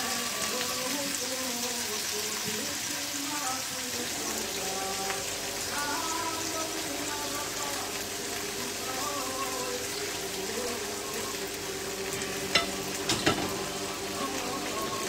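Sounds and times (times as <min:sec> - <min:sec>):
pan sizzling and bubbling: 0:00.0 - 0:15.0.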